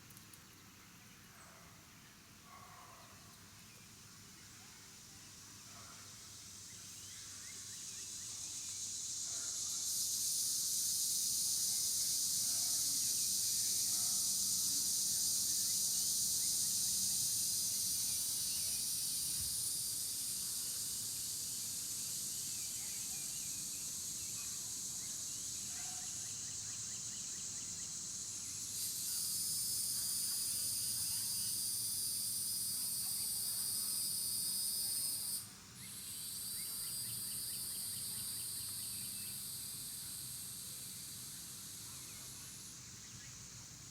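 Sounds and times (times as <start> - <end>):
insects buzzing: 5.8 - 43.9.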